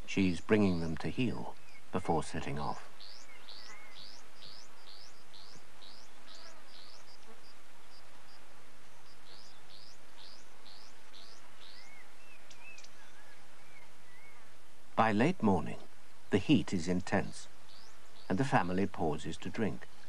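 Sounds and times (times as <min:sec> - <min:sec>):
bird chirping: 0:00.0 - 0:20.0
tape hiss: 0:00.0 - 0:20.0.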